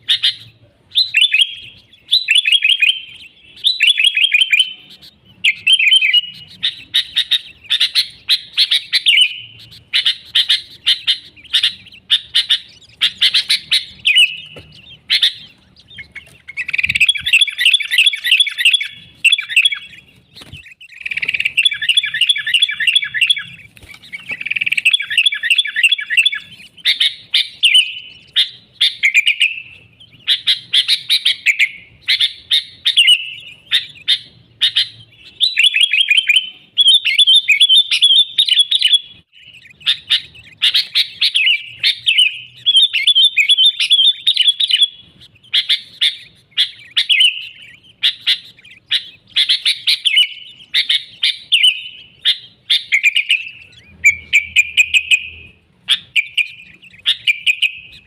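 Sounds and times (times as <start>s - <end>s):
bulbul singing chattering notes: 0.0s - 58.0s.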